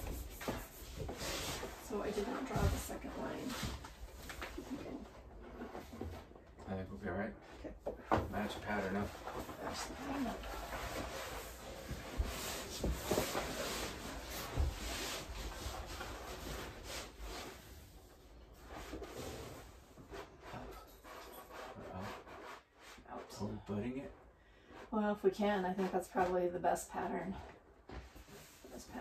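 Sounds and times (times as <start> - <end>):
wallpaper rubbing against wall: 0.0 - 6.4, 8.3 - 29.0.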